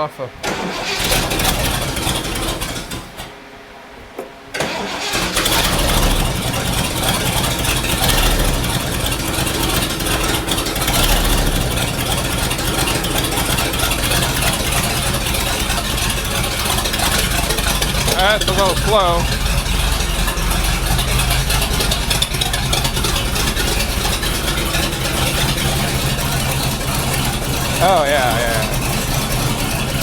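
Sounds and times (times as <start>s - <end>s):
car engine restarting and running: 0.3s - 3.6s, 4.5s - 30.0s.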